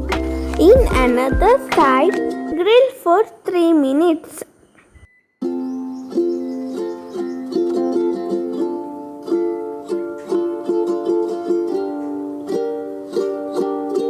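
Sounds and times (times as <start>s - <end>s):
plucked string melody: 0.0s - 2.9s, 5.4s - 14.0s.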